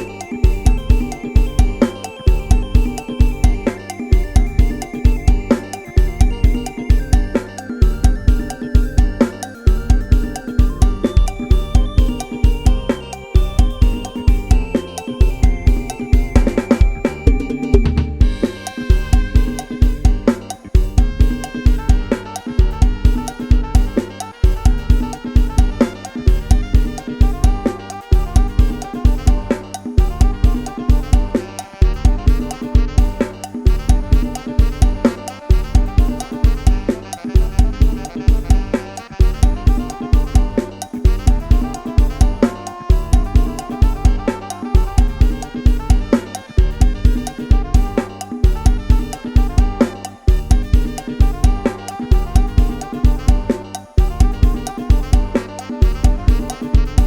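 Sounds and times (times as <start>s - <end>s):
melodic line: 0.0s - 57.0s
programmed drum kit: 0.0s - 57.0s
sampled bass: 0.0s - 57.0s.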